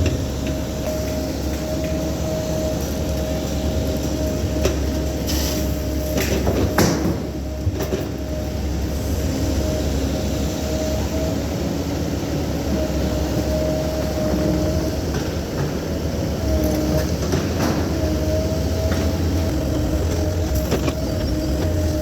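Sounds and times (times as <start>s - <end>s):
constant whine: 0.0s - 22.0s
excavator diesel engine running: 0.0s - 22.0s.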